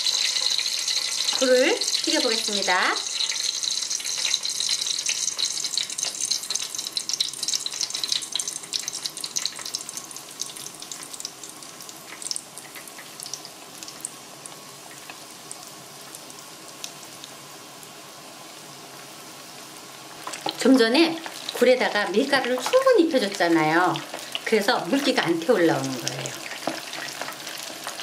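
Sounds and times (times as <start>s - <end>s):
food deep-frying in hot oil: 0.0s - 28.0s.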